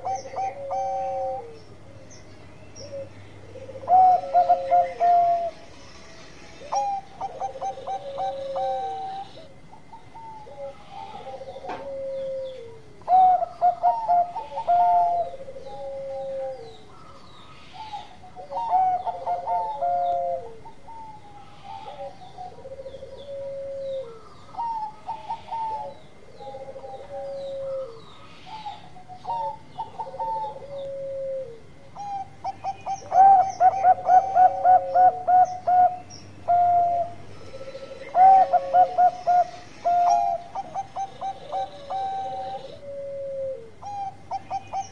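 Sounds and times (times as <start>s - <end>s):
dove cooing: 0.0s - 2.2s, 2.8s - 5.7s, 6.6s - 44.9s.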